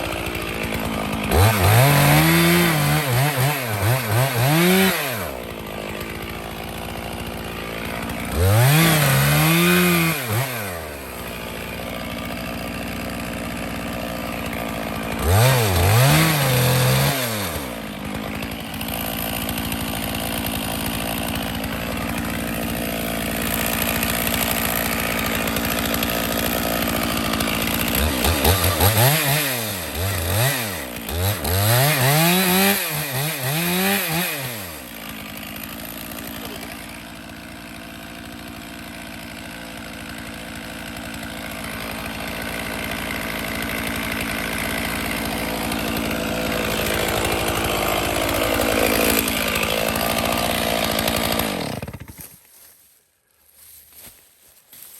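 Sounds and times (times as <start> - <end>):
chainsaw idling and revving: 0.0 - 54.9.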